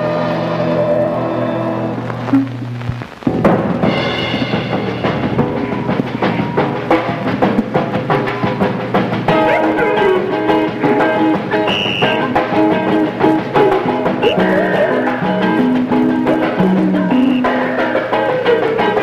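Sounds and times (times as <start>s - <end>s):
bass guitar: 0.0s - 19.0s
electric guitar playing: 0.0s - 19.0s
drum kit beat: 2.3s - 19.0s.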